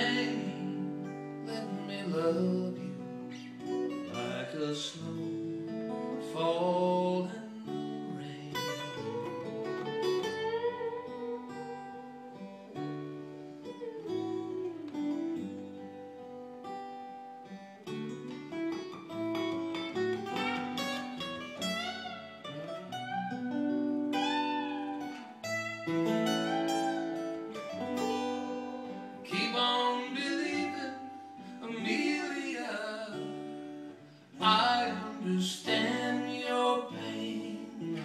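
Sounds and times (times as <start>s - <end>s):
acoustic guitar strumming: 0.0s - 38.0s
lead guitar melody: 0.0s - 38.0s.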